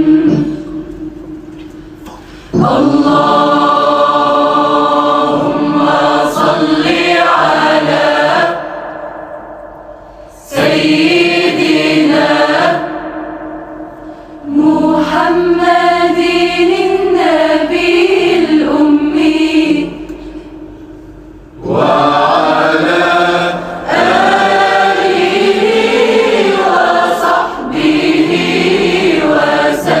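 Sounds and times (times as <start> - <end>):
voices chanting melodically: 2.5 - 20.1, 21.6 - 30.0.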